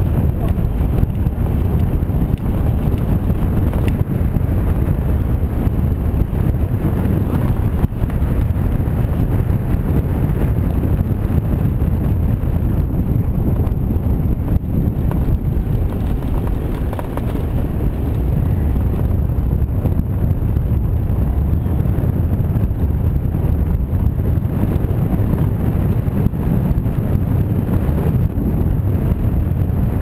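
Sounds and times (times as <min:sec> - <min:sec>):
low road rumble: 0:00.0 - 0:30.0
wind buffeting microphone: 0:00.0 - 0:30.0.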